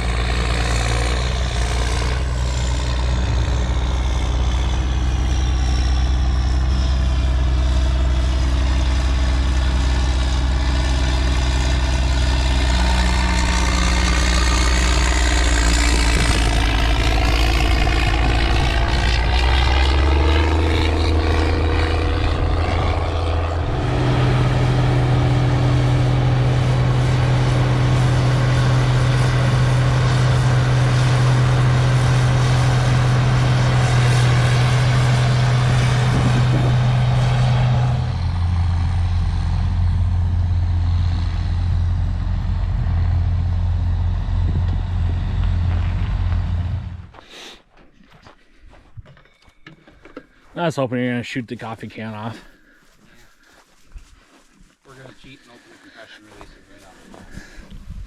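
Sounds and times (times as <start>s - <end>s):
tractor engine droning: 0.0s - 47.2s.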